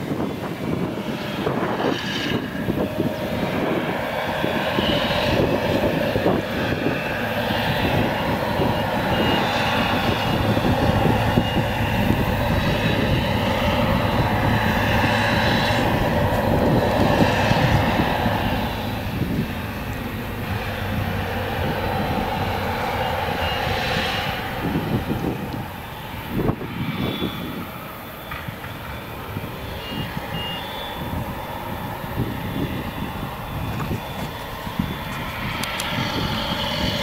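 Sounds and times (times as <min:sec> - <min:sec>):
harvester engine and chopper: 0:00.0 - 0:37.0.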